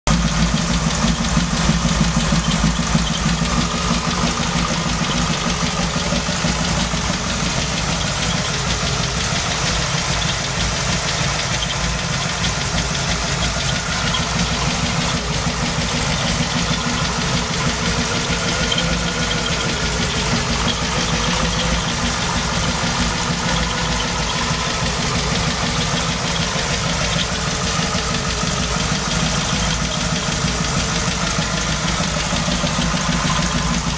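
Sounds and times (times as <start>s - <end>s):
supercharged engine idling: 0.0s - 33.9s.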